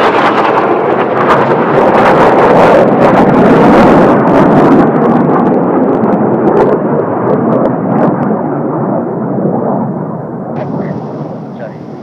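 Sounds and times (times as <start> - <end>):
jet aircraft passing: 0.0 - 12.0.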